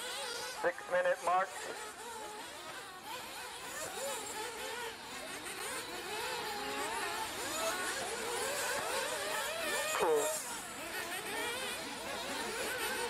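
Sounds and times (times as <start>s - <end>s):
rc car engines revving: 0.0s - 13.0s.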